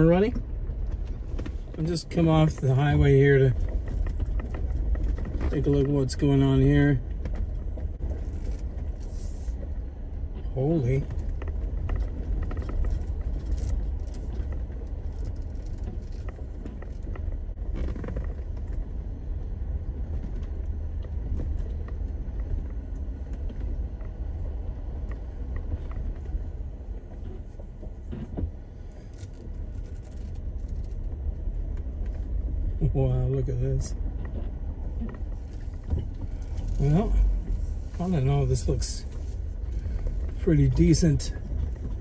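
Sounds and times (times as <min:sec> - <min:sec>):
low rumble of engine and tyres: 0:00.0 - 0:42.0.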